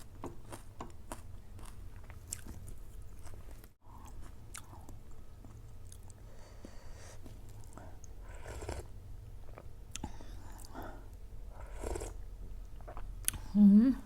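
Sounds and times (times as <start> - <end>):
person chewing food: 0.0 - 13.6.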